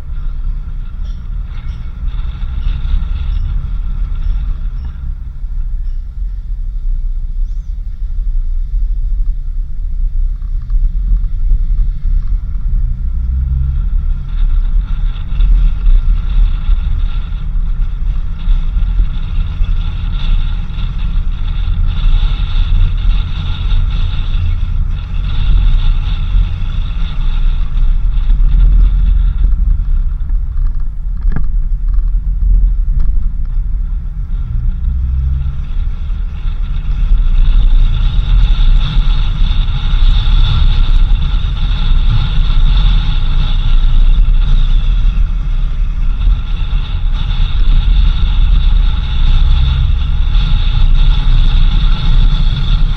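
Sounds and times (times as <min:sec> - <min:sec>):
engine and tyres rumbling: 0:00.0 - 0:52.9
high whine: 0:00.0 - 0:52.9.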